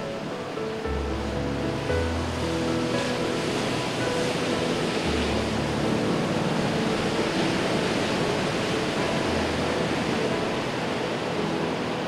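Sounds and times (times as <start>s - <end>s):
heavy surf on rocky shore: 0.0s - 12.0s.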